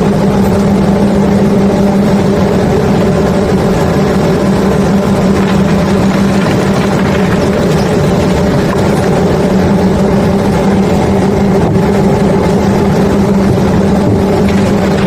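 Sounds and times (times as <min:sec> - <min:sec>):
heavy engine humming: 0:00.0 - 0:15.0
rushing noise: 0:00.0 - 0:15.0.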